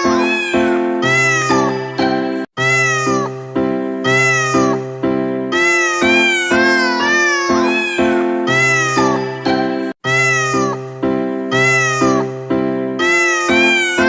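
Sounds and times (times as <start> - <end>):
cat meowing: 0.0 - 3.4, 4.0 - 4.9, 5.5 - 10.9, 11.5 - 12.4, 13.0 - 14.0.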